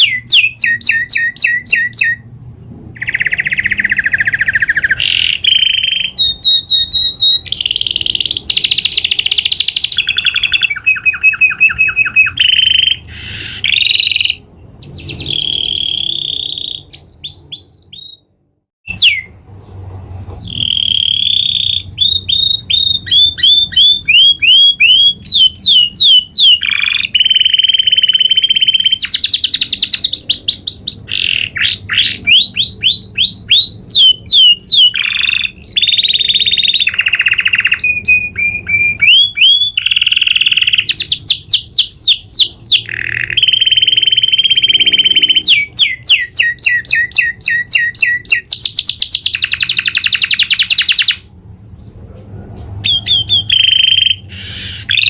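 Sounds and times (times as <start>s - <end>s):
canary singing trills: 0.0s - 2.3s, 3.0s - 18.3s, 18.9s - 19.8s, 20.4s - 55.0s.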